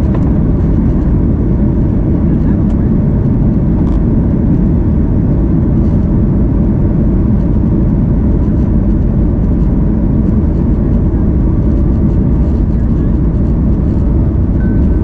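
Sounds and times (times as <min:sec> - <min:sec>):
aircraft engine rumble in cabin: 0:00.0 - 0:15.0.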